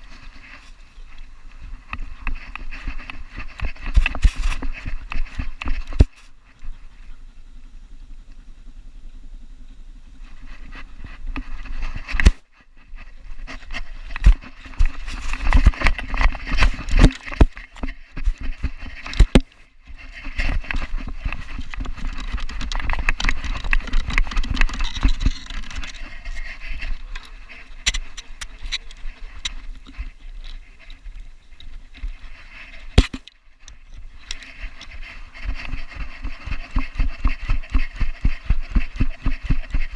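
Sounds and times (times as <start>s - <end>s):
camera handling rumble and scuffing: 0.0s - 6.8s, 10.3s - 39.9s.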